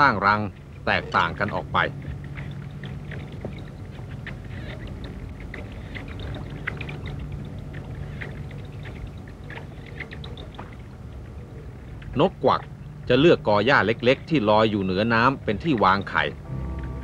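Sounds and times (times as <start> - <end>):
soft water sounds: 0.0 - 17.0
steady low hum: 0.0 - 17.0.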